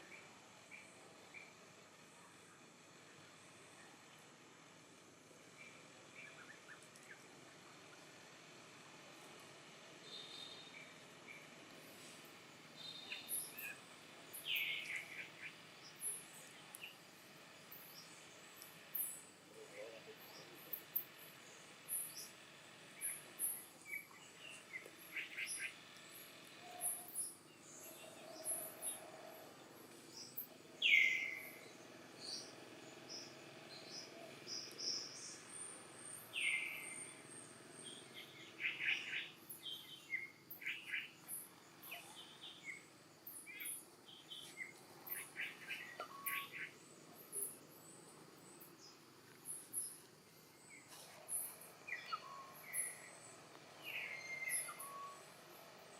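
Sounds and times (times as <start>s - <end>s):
insects buzzing: 10.2s - 55.9s.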